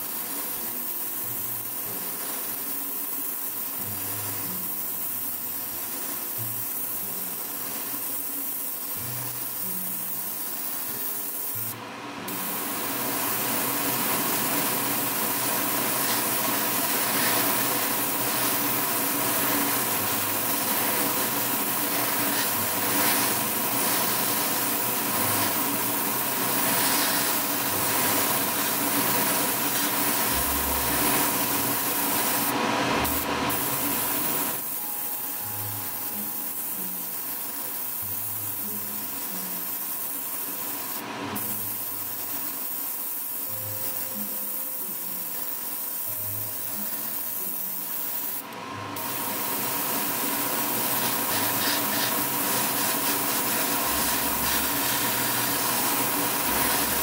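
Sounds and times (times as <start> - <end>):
airbrush spraying hiss: 0.0 - 57.0.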